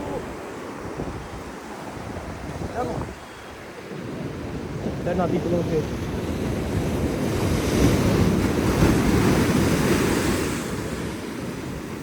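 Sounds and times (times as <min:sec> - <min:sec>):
ocean surf washing in: 0:00.0 - 0:12.0
wind buffeting microphone: 0:00.0 - 0:12.0.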